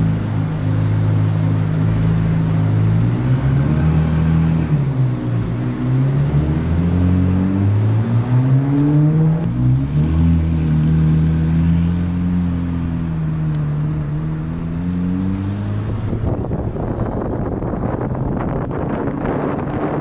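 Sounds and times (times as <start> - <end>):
sports car engine accelerating: 0.0 - 20.0.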